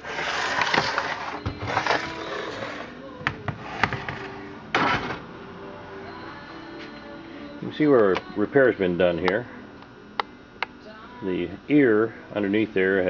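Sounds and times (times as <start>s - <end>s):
faint steady background tones: 0.0s - 13.0s.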